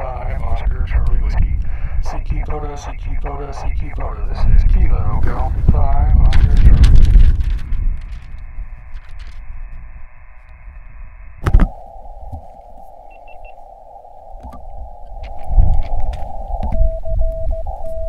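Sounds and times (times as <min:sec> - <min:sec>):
radio receiver hiss: 0:00.0 - 0:18.0.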